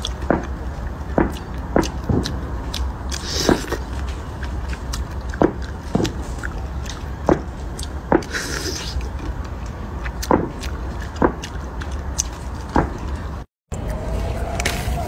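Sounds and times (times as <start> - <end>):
cherries crunching as chewed: 0.0 - 15.0.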